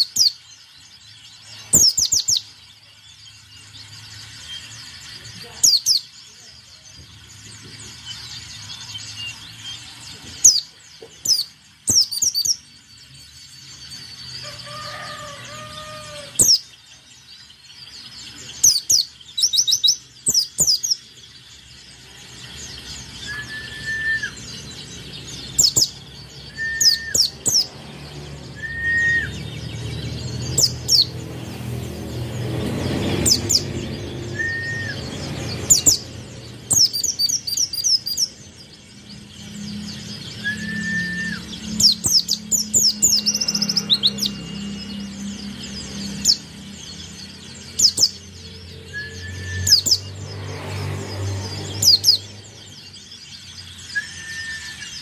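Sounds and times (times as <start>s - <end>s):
bird rapid high chirps: 0.0s - 55.0s.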